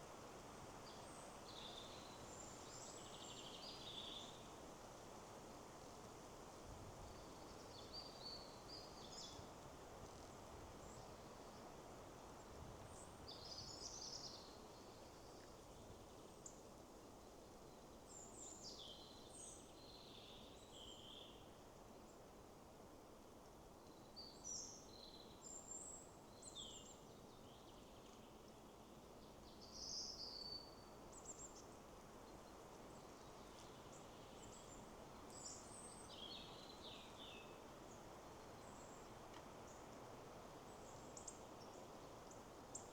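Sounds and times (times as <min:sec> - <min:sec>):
wind in trees: 0:00.0 - 0:42.9.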